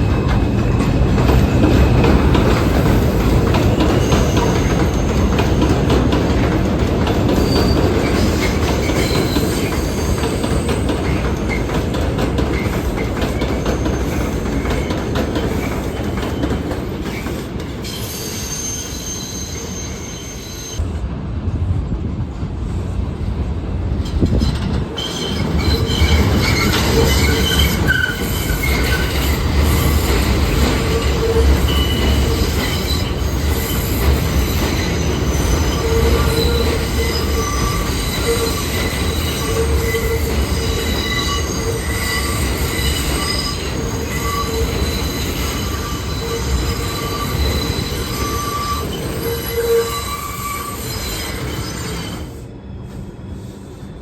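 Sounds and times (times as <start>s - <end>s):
train clattering: 0.0s - 17.8s, 23.9s - 50.2s
train wheels squealing: 0.0s - 20.8s, 24.0s - 54.0s
subway train rumbling on rails: 0.0s - 54.0s.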